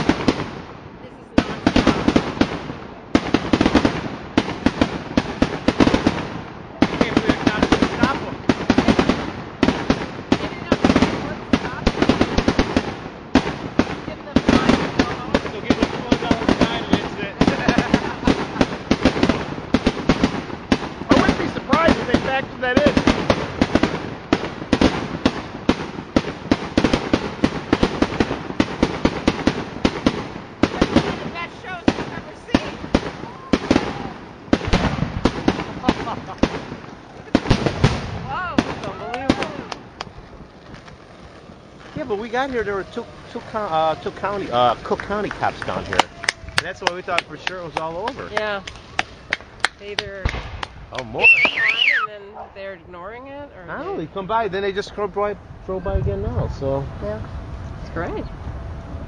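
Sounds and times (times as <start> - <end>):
fireworks bangs and pops: 0.0 - 52.0
fireworks crackling: 0.0 - 59.0.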